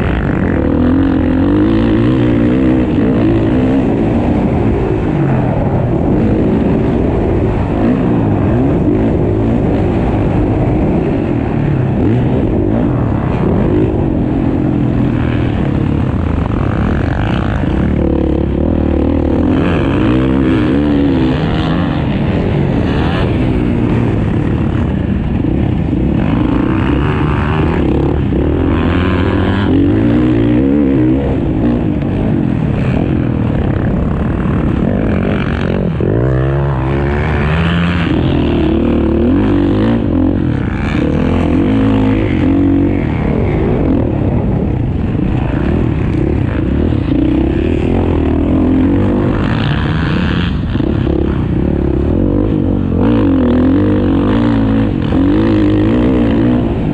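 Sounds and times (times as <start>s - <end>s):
motocross bikes revving: 0.0s - 56.9s.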